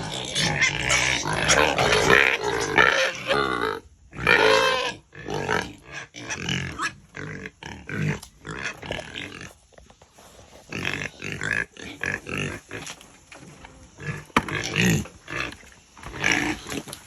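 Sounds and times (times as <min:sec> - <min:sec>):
pigs grunting and squealing: 0:00.0 - 0:09.7, 0:10.6 - 0:17.0.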